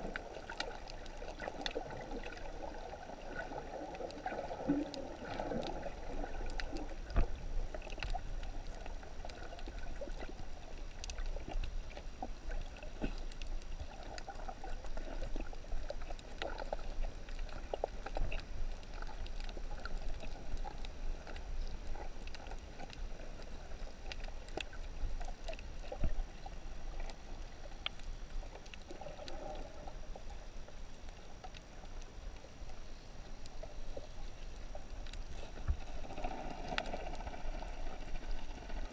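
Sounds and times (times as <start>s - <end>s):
muffled underwater water wash: 0.0s - 38.9s
sharp clicks and crackles: 0.1s - 38.9s.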